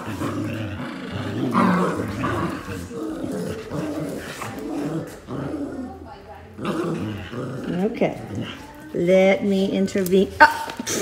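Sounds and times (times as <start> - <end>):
dogs growling in play: 0.0 - 10.0.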